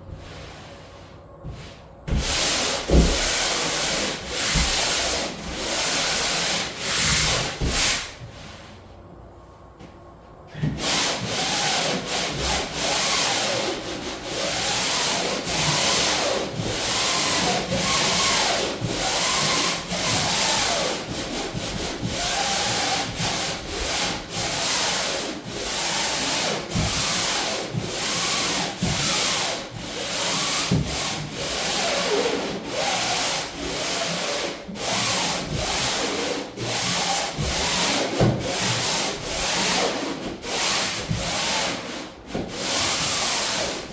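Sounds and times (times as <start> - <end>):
sandpaper rubbing on plywood: 1.6 - 8.7, 10.8 - 43.9.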